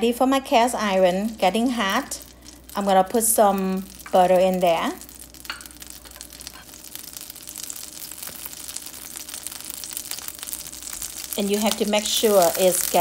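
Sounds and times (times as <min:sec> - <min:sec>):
butter sizzling in skillet: 0:00.7 - 0:13.0.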